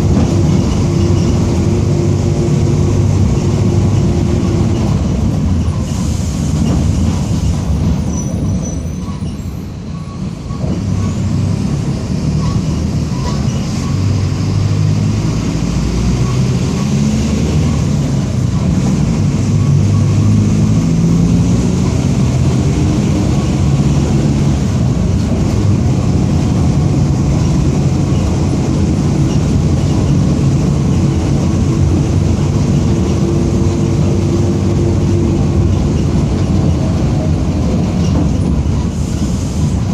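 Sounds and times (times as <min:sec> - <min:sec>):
bus engine pulling: 0:00.0 - 0:39.9.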